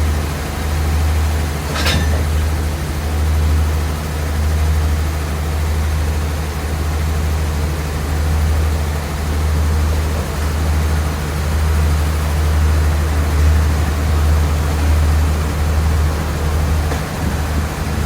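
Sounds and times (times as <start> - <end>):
train rumble inside coach: 0.0 - 18.0.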